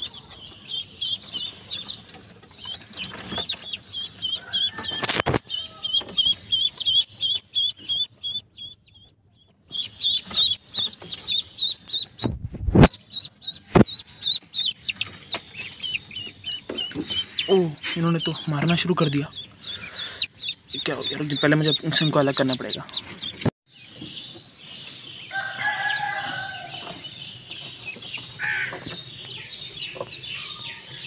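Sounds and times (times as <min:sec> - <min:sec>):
chicks and ducklings peeping: 0:00.0 - 0:31.0.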